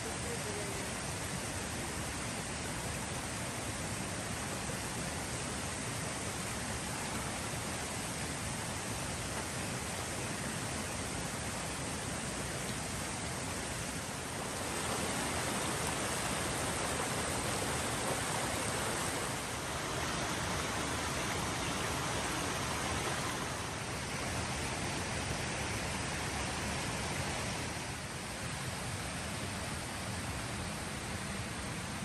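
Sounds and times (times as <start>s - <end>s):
creek water rushing: 0.0s - 32.0s.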